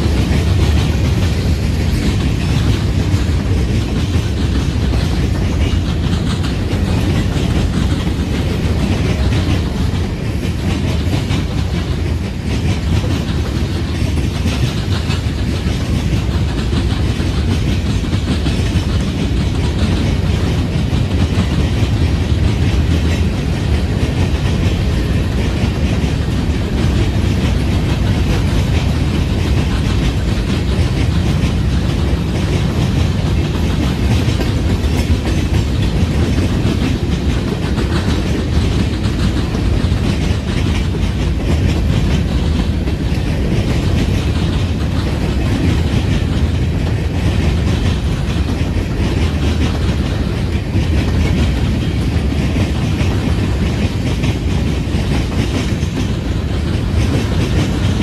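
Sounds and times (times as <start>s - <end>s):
steel train wheels on rails: 0.0s - 58.0s.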